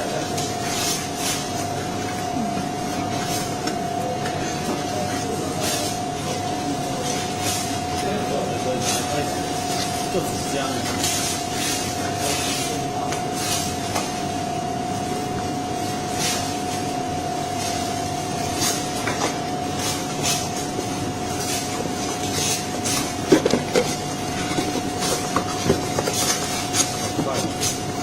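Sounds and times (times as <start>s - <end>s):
cutting machine whine and hum: 0.0s - 28.0s.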